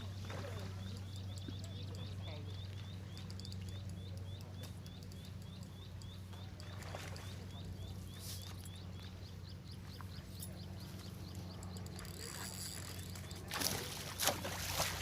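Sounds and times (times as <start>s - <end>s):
high chirping: 0.8s - 13.4s.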